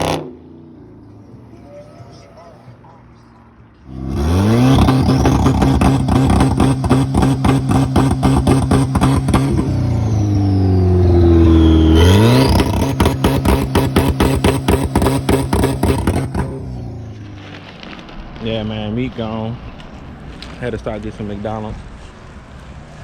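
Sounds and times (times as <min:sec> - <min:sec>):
car engine revving with crackle: 0:00.0 - 0:01.2, 0:03.8 - 0:23.0.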